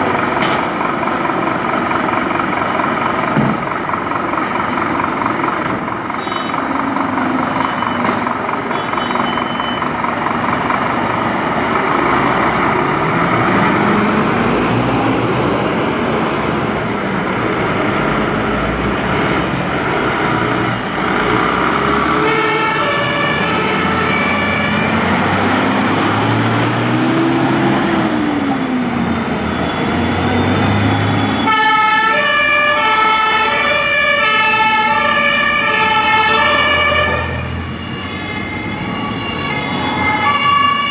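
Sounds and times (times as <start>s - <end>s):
diesel truck engines running: 0.0s - 40.9s
two-tone sirens: 6.2s - 16.7s, 18.1s - 40.9s.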